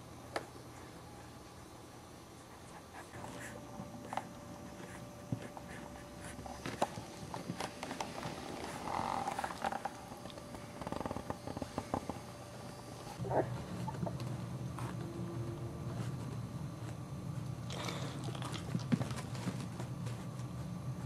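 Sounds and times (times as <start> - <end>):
puppies snuffling and scuffling: 0.7 - 21.0.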